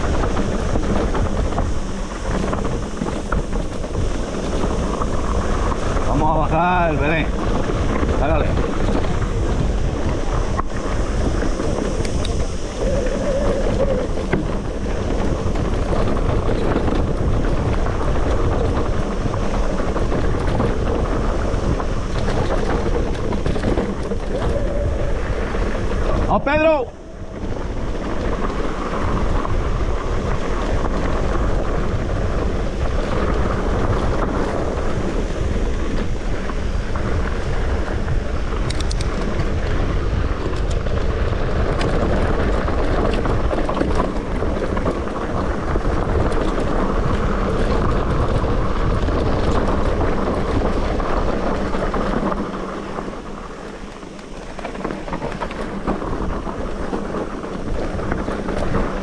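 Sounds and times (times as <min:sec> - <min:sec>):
bike rolling on trail: 0:00.0 - 0:59.0
wind buffeting microphone: 0:00.0 - 0:59.0.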